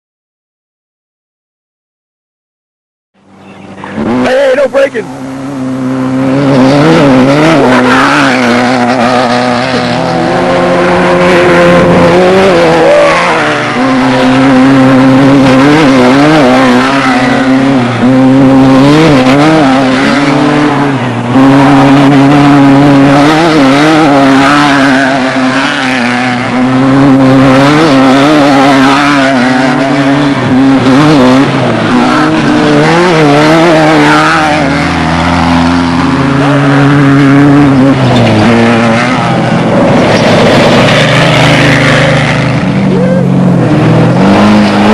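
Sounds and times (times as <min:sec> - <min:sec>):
race vehicle engine revving: 0:03.3 - 0:44.9.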